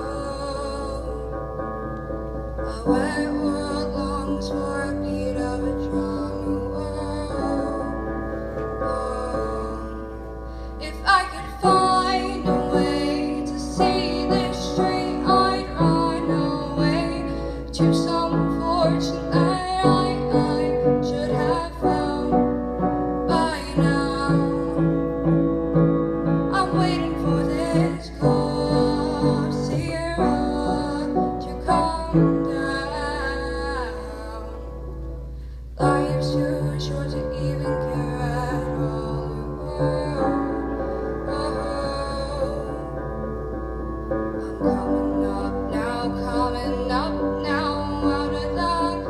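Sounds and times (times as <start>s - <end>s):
woman singing slow song: 0.0s - 1.5s, 2.6s - 25.4s, 26.4s - 35.0s, 35.8s - 43.3s, 44.3s - 49.0s.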